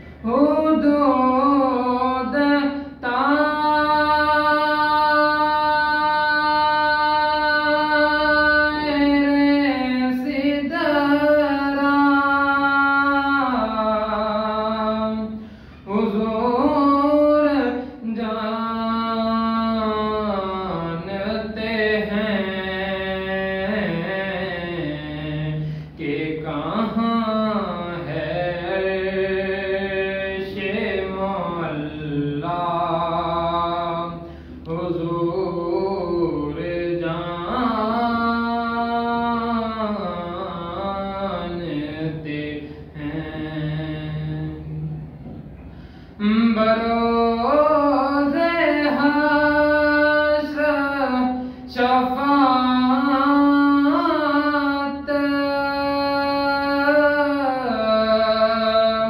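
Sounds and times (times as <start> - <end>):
man singing unaccompanied: 0.0 - 59.0.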